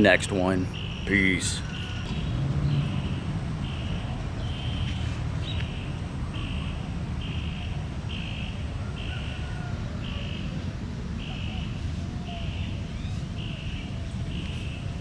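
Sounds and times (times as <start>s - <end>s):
steady low rumble: 0.0s - 15.0s
animals making buzzing calls: 0.4s - 15.0s.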